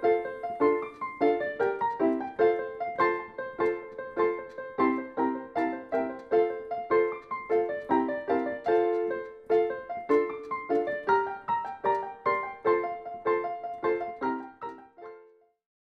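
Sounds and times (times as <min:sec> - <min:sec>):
piano music: 0:00.0 - 0:15.5.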